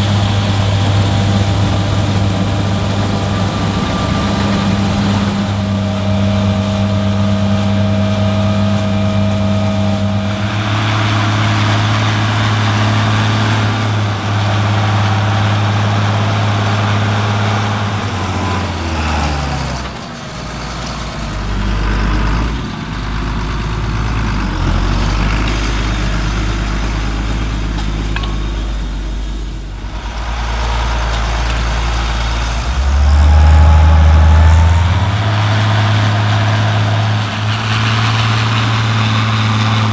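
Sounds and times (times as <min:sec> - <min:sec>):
heavy farm machinery engines: 0:00.0 - 0:39.9.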